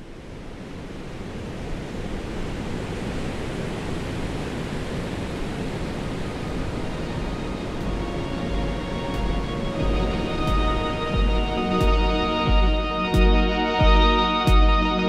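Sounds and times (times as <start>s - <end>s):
ocean waves breaking: 0.0s - 13.9s.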